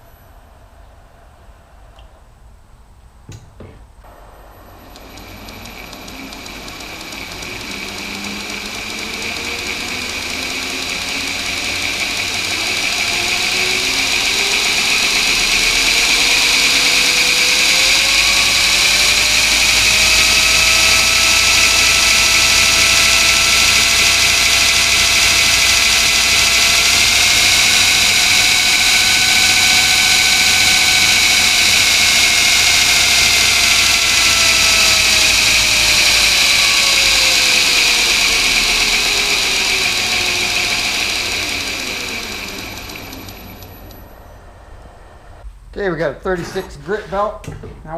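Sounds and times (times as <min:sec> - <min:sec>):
belt grinder motor whine: 0:04.1 - 0:45.4.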